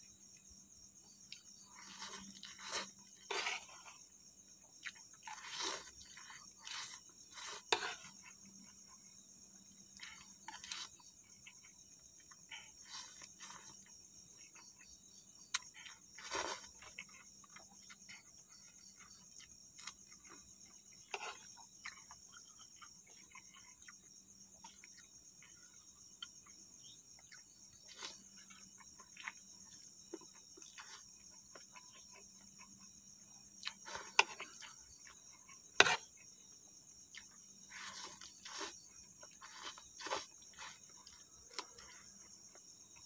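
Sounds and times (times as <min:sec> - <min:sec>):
night insects chirring: 0:00.0 - 0:43.0.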